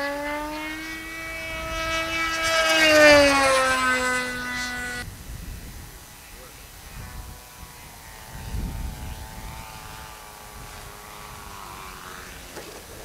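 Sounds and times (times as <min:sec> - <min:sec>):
model plane engine buzzing: 0:00.0 - 0:13.0
wind rumble on microphone: 0:00.0 - 0:13.0.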